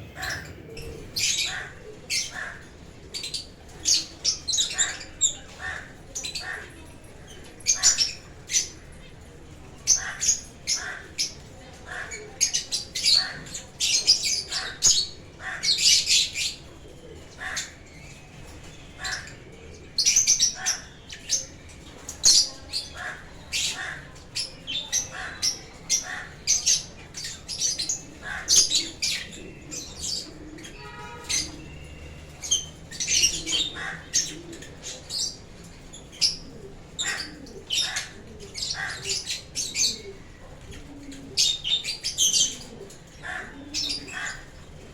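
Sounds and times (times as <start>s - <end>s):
lovebirds chirping and squawking: 0.0s - 44.9s.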